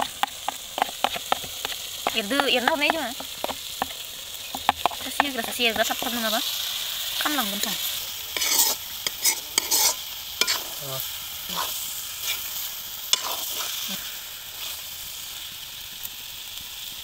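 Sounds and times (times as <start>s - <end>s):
spatula scraping a pan: 0.0s - 10.9s, 11.5s - 14.8s
chicken sizzling in a wok: 0.0s - 17.0s.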